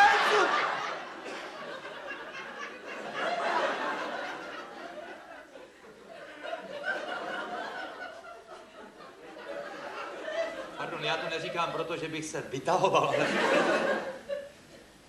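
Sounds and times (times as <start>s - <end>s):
audience laughing: 0.0s - 11.8s, 12.9s - 14.6s.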